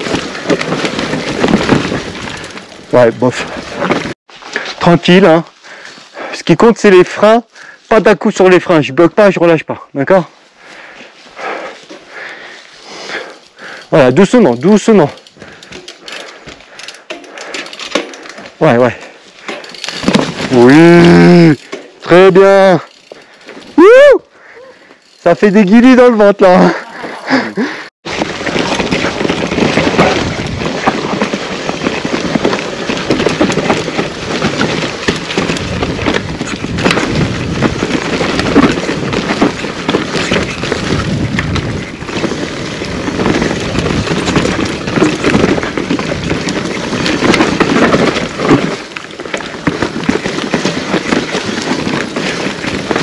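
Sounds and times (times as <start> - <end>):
bike clattering over bumps: 0.0 - 4.2, 11.4 - 23.8, 24.6 - 53.0
bike tyres crackling over leaves: 0.0 - 53.0.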